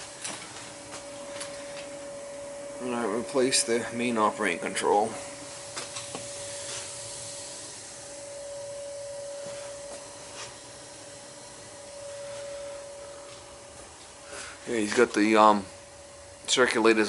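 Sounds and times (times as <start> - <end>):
constant hum: 0.0 - 17.0
gas boiler burner hissing: 0.0 - 17.0.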